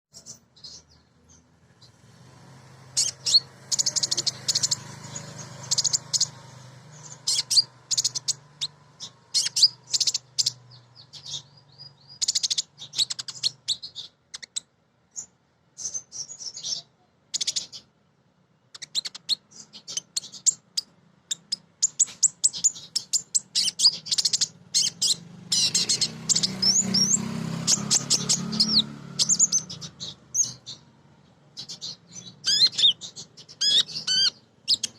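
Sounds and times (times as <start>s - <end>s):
sunbird chirping and twittering: 0.1s - 34.9s.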